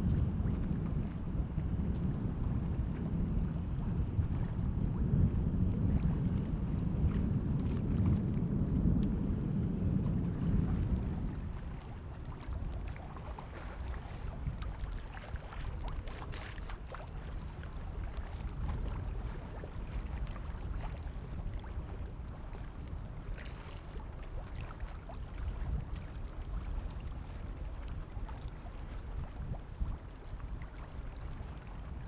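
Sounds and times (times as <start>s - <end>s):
low wind rumble: 0.0s - 32.0s
small waves lapping and splashing: 0.0s - 32.0s.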